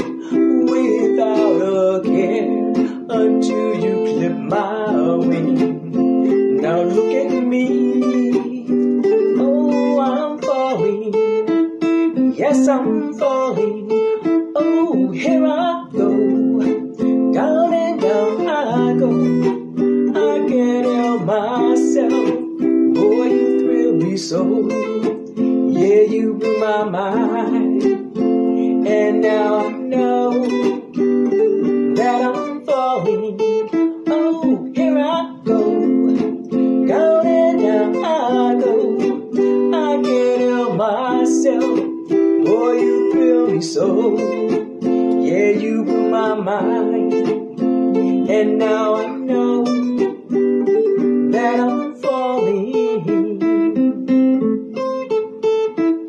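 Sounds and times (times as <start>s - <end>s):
electric guitar chords: 0.0s - 56.0s
person singing: 0.0s - 56.0s.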